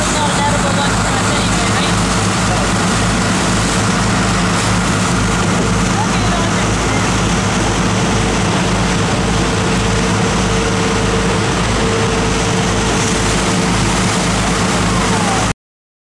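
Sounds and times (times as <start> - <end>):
wake rushing: 0.0 - 15.5
wind: 0.0 - 15.5
boat engine droning: 0.0 - 15.6.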